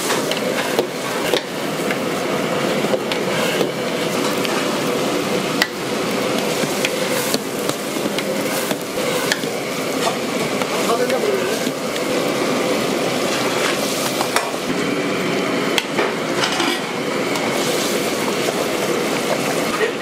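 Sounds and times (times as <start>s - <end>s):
utensils clanking: 0.0s - 14.9s, 15.8s - 20.0s
kitchen roar: 0.0s - 20.0s.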